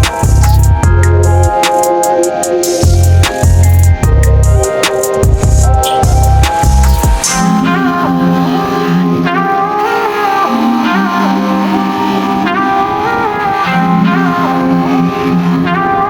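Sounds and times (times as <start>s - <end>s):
melodic instrumental music: 0.0s - 16.0s.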